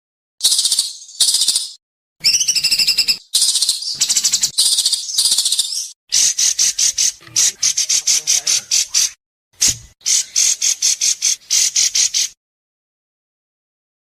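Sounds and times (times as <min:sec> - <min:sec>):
bird singing rasping trills: 0:00.4 - 0:12.4.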